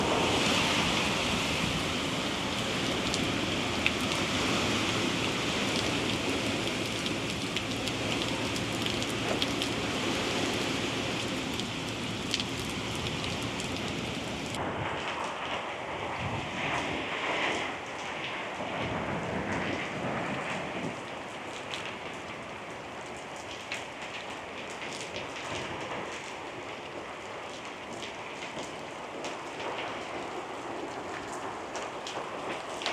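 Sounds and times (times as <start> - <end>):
heavy rain pouring: 0.0 - 32.9.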